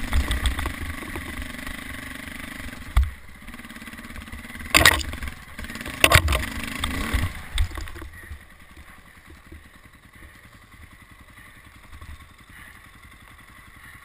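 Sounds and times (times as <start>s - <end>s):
dirt bike engine puttering: 0.0s - 14.0s.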